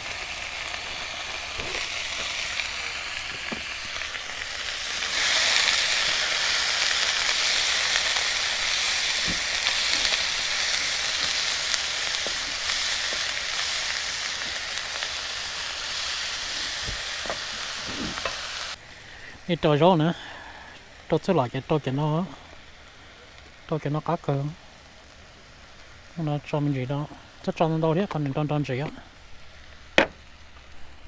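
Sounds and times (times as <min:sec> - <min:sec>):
meat sizzling in a frying pan: 0:00.0 - 0:20.2, 0:20.8 - 0:30.8.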